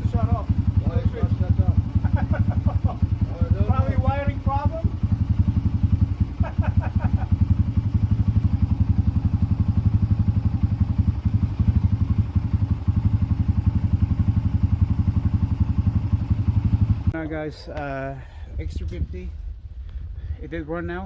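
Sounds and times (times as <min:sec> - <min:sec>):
motorcycle engine idling: 0:00.0 - 0:17.2.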